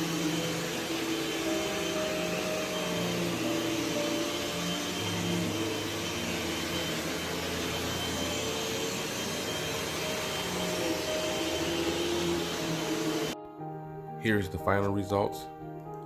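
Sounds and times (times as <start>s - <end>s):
vacuum cleaner on carpet: 0.0s - 13.4s.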